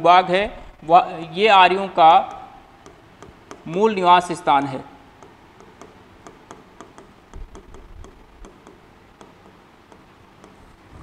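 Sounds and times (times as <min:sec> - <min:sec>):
marker writing on a whiteboard: 0:02.2 - 0:11.0.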